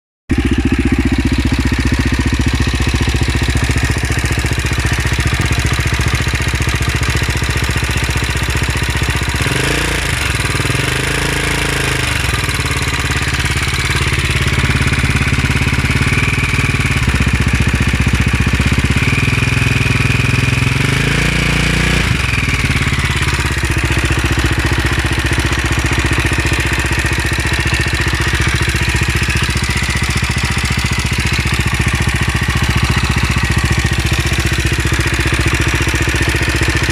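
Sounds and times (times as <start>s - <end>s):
motorcycle engine idling: 0.3s - 36.9s.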